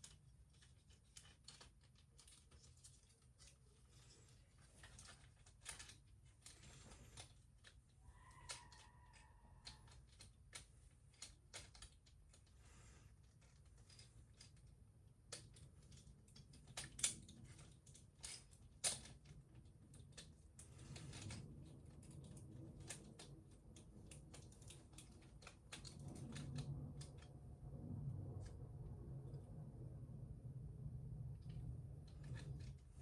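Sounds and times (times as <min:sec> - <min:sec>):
plastic toy parts clicking: 0:00.0 - 0:27.5, 0:31.4 - 0:33.0.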